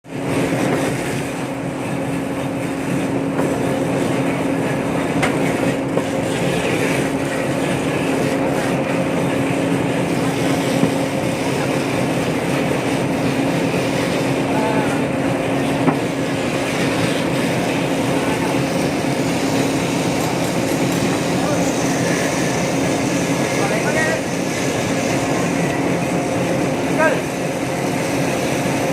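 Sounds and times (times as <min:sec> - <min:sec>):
machine motor humming: 0:00.1 - 0:28.9.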